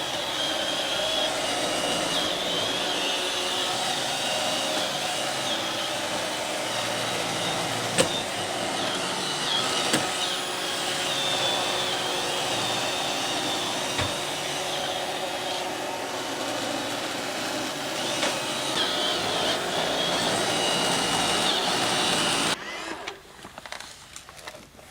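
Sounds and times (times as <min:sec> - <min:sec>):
robot vacuum whirring: 0:00.0 - 0:23.8.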